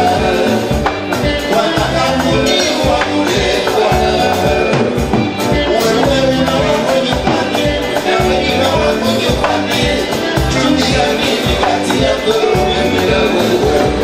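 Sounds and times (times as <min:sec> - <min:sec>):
live band music: 0:00.0 - 0:14.0
person singing: 0:00.0 - 0:14.0.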